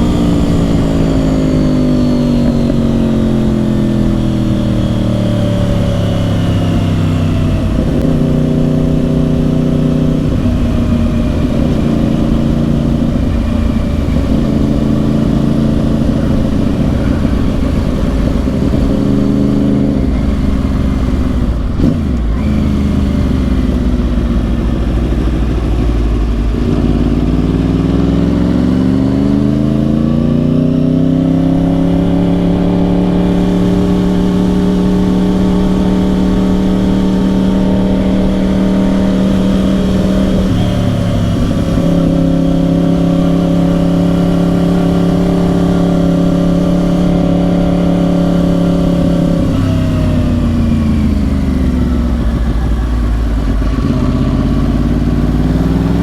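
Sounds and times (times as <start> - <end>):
low wind rumble: 0.0 - 56.0
motorcycle engine accelerating: 0.0 - 56.0.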